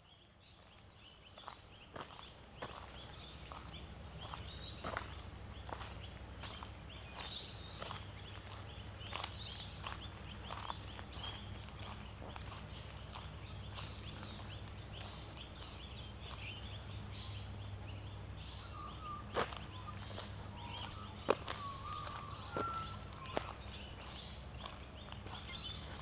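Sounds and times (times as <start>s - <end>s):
low background hum: 0.0s - 26.0s
small birds chirping: 0.0s - 26.0s.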